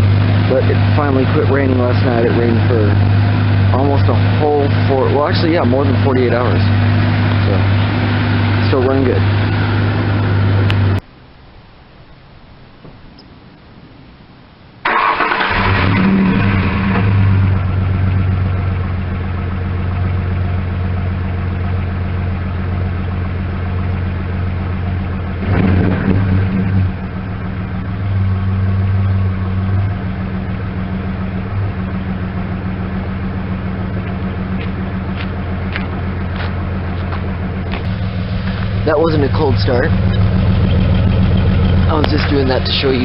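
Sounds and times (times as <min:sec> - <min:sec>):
car engine idling unevenly: 0:00.0 - 0:11.1, 0:14.8 - 0:43.0.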